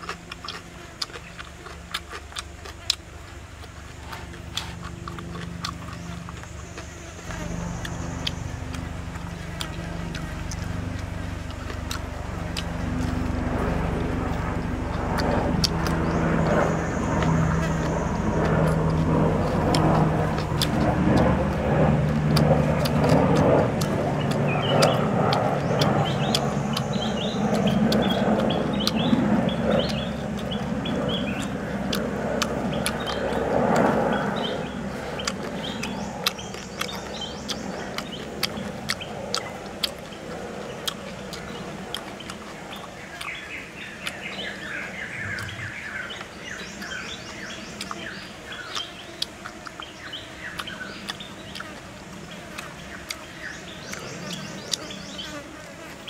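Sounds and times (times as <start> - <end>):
birds chirping: 0.0 - 56.0
chewing crispy food: 0.0 - 56.0.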